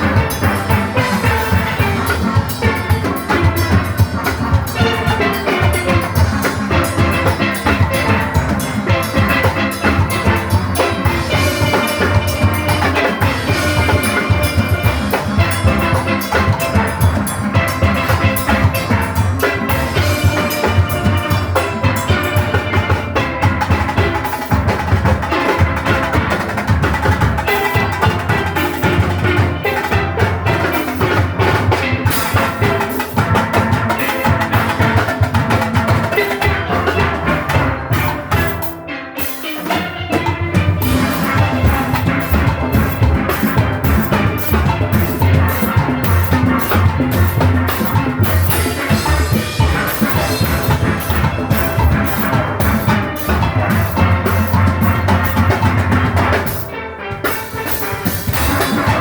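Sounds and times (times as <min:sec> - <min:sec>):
drum kit and percussion rhythm: 0:00.0 - 0:59.0
steelpans playing fast melody: 0:00.0 - 0:59.0.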